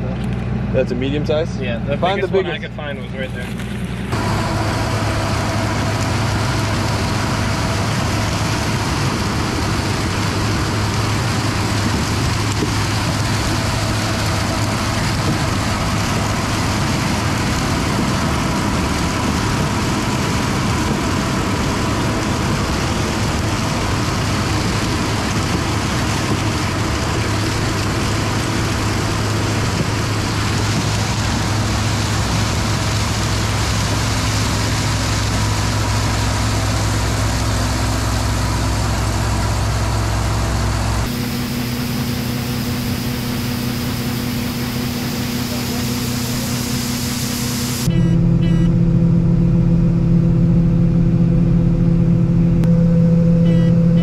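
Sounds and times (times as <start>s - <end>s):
combine harvester running: 0.0s - 54.0s
grain pouring from auger: 3.4s - 47.9s.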